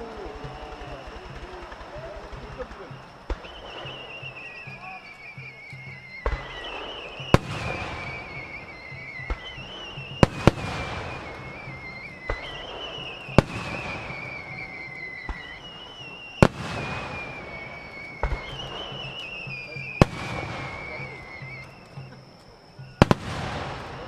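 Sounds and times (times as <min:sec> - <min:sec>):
firework shells bursting with bangs: 0:00.0 - 0:24.0
fireworks crackle and rumble: 0:00.0 - 0:24.0.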